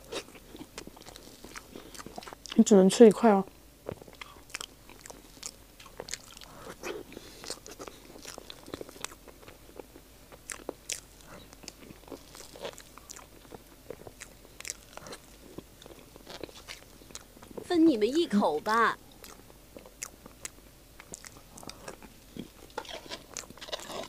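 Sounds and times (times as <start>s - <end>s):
quiet chewing: 0.0s - 2.8s, 3.8s - 18.3s, 19.0s - 24.0s.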